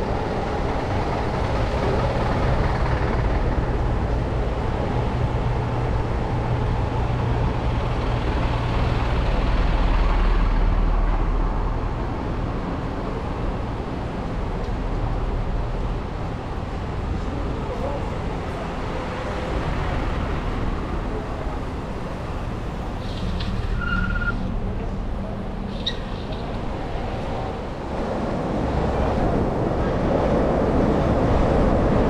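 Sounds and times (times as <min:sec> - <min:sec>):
heavy vehicle engine rumble: 0:00.0 - 0:32.0
road traffic noise: 0:00.0 - 0:32.0.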